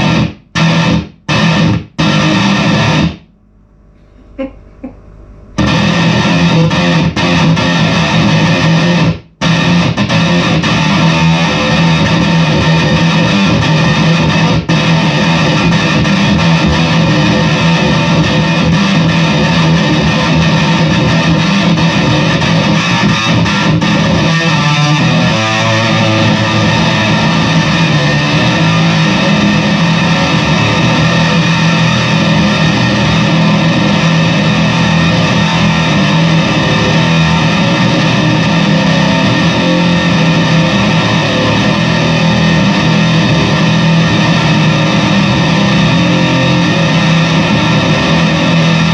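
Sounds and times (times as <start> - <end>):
fuzz bass guitar tone: 0.0 - 48.9.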